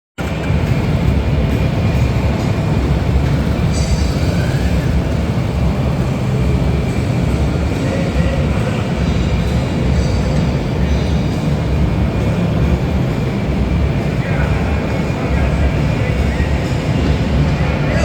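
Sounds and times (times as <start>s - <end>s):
motorcycle engines rumbling: 0.2s - 18.0s.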